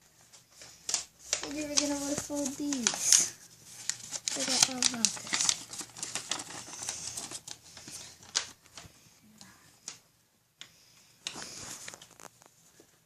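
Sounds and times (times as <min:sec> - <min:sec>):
paper being folded: 0:00.0 - 0:08.9, 0:11.2 - 0:12.8.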